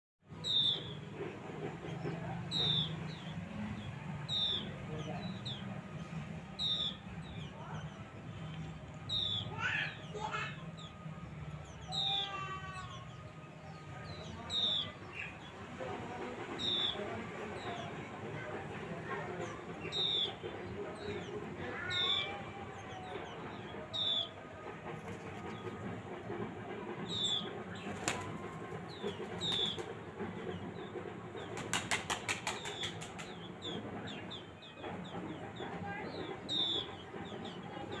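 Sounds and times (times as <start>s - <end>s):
small birds chirping: 0.3s - 38.0s.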